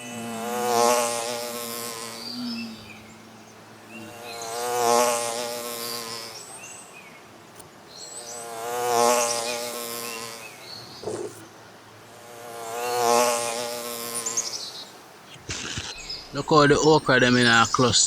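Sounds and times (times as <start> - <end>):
flying insect buzzing: 0.0 - 18.0.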